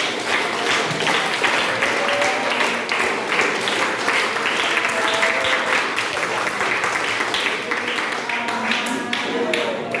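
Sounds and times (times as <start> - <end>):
boys clapping: 0.0 - 10.0.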